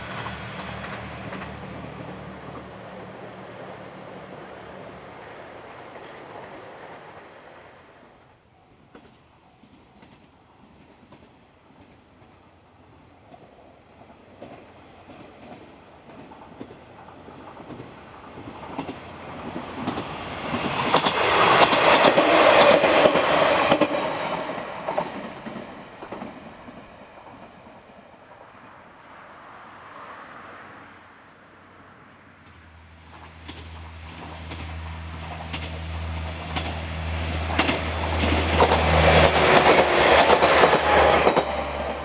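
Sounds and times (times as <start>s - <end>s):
wheels rattling on rail joints: 0.0s - 29.3s, 32.4s - 42.0s
diesel railcar passing: 0.0s - 42.0s.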